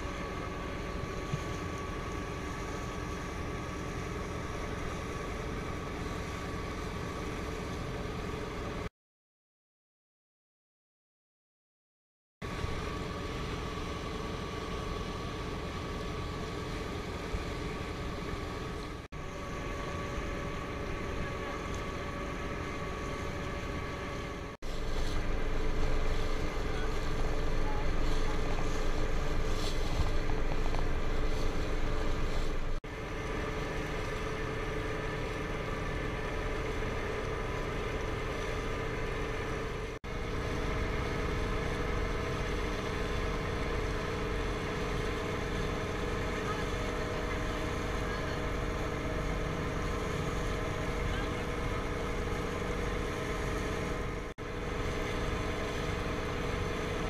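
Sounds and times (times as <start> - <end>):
motorboat engine running: 0.0 - 8.9, 12.4 - 57.0
water noise: 0.0 - 8.9, 12.4 - 57.0
wind: 0.0 - 8.9, 12.4 - 57.0.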